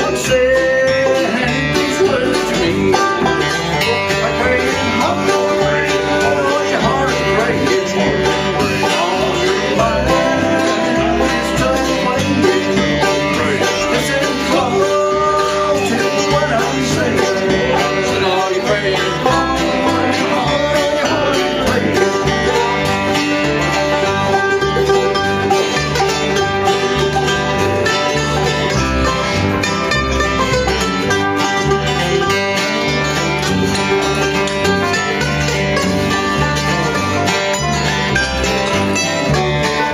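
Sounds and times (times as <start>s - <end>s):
banjo: 0.0s - 39.9s
guitar: 0.0s - 39.9s
mandolin: 0.0s - 39.9s
upright bass: 0.0s - 39.9s.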